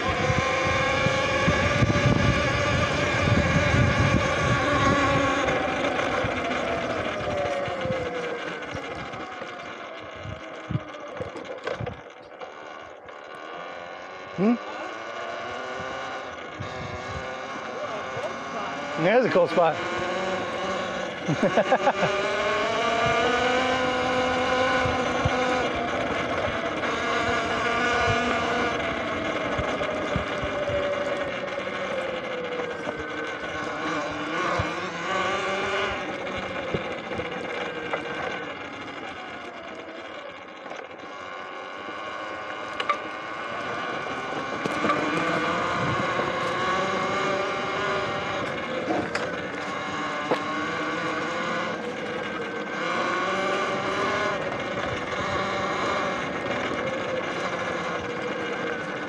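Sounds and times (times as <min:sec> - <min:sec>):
electric motorbike motor whining: 0:00.0 - 0:59.0.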